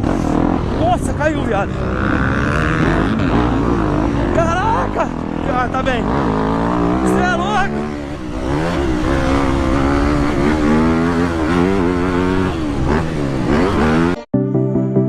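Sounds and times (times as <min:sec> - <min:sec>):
dirt bike engines revving: 0:00.0 - 0:14.2.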